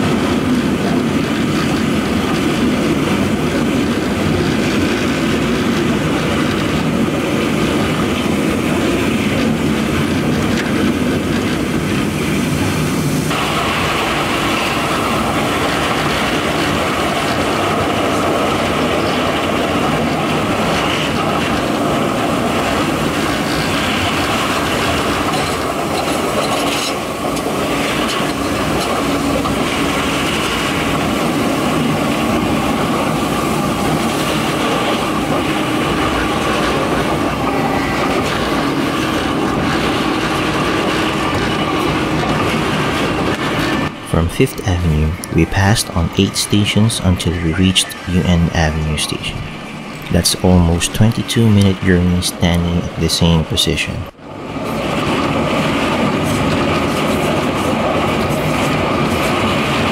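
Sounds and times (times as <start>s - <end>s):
train wheels on rails: 0.0s - 45.6s, 54.1s - 59.9s.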